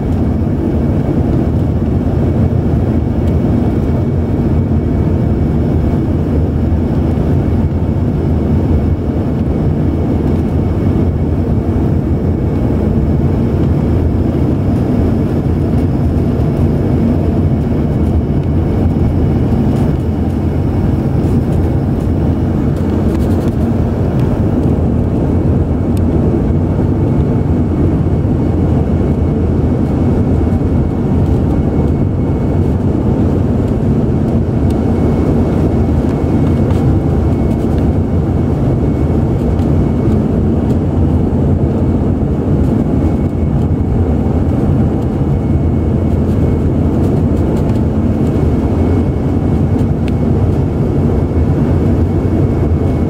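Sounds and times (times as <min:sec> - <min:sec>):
airliner cabin engine roar: 0:00.0 - 0:53.0.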